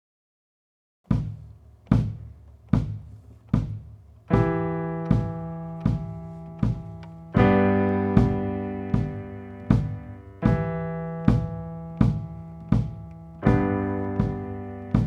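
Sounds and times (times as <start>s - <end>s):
held chords: 1.1s - 15.0s
slow even beat: 1.1s - 15.0s.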